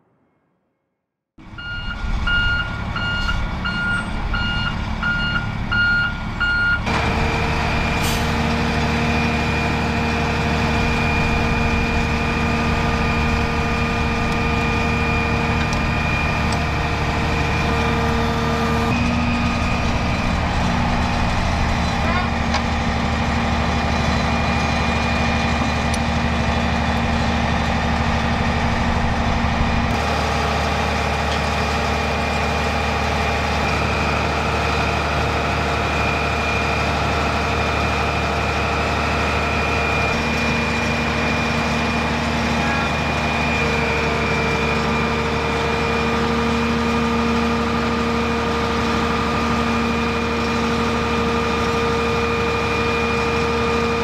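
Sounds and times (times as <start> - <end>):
diesel truck engine idling: 1.4 - 54.0.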